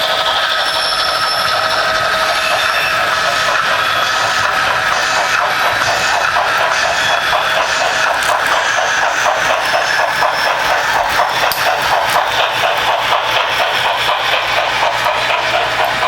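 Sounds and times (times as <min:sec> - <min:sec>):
model train motor whir: 0:00.0 - 0:16.0
wheels clicking over rail joints: 0:00.0 - 0:16.0.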